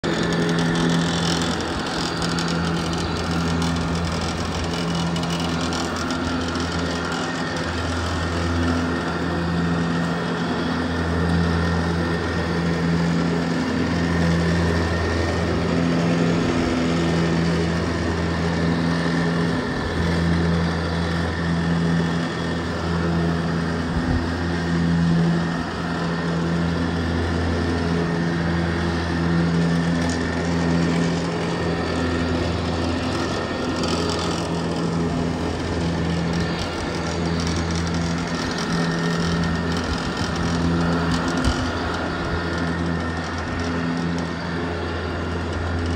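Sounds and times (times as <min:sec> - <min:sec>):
ride-on mower engine running: 0:00.0 - 0:45.9.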